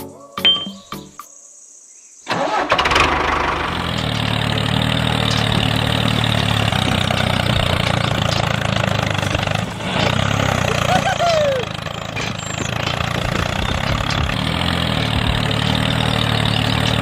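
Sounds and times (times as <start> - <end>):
engine running: 2.3 - 17.0.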